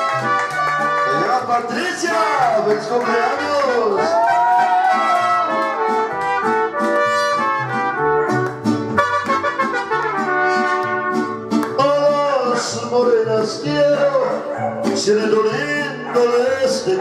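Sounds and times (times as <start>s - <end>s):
mariachi band playing: 0.0s - 17.0s
trumpet melody: 0.0s - 17.0s.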